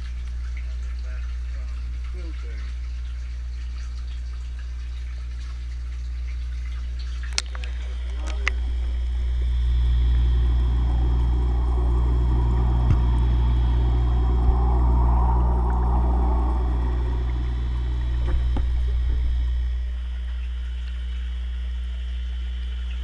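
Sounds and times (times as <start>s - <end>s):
steady low hum: 0.0s - 23.0s
water pouring into fish tank: 0.0s - 23.0s.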